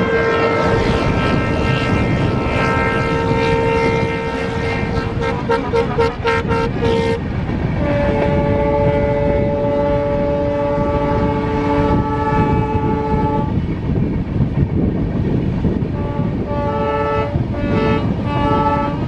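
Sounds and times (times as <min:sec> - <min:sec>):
locomotive air horns: 0:00.0 - 0:13.6, 0:16.0 - 0:19.0
moving train rumble: 0:00.0 - 0:19.0.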